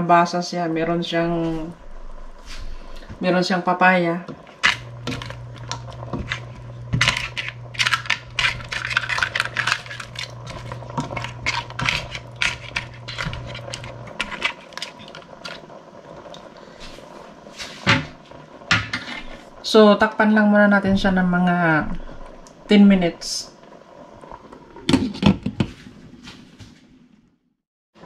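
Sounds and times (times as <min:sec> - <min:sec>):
low steady hum: 0:00.0 - 0:26.8.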